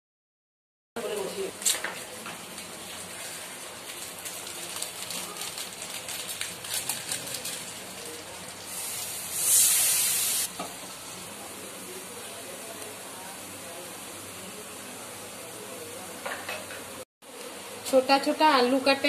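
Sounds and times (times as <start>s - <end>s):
spices frying in hot oil: 1.0s - 19.0s.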